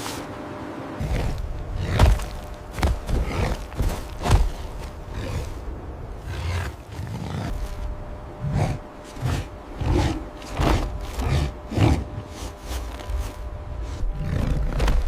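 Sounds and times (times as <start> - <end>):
large animal growling: 1.0 - 15.0.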